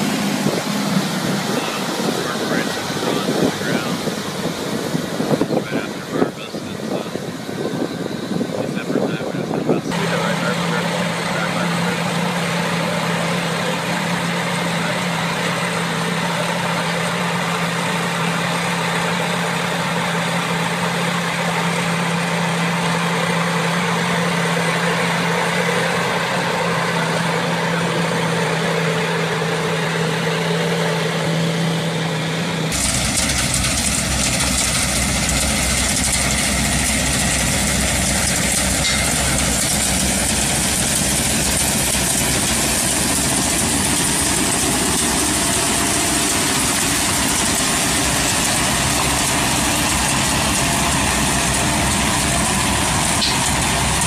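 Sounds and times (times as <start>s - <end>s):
harvester engine hum: 0.0s - 54.0s
harvester mechanical rumble: 0.0s - 54.0s.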